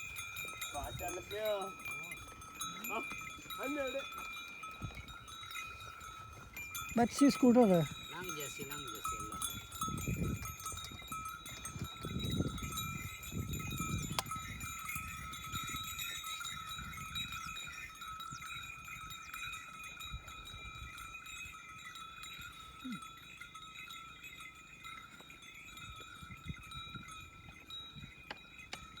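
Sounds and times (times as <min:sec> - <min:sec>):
small bells ringing: 0:00.0 - 0:29.0.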